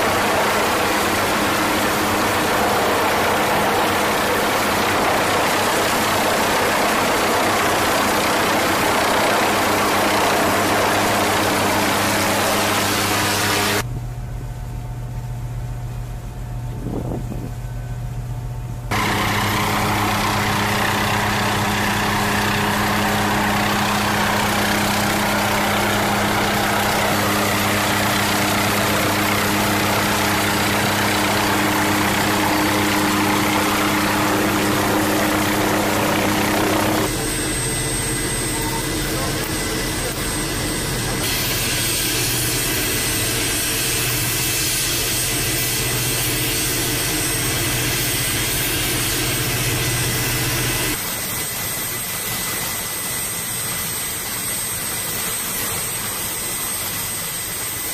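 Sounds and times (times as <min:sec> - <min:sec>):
helicopter rotor and engine noise: 0:00.0 - 0:57.9.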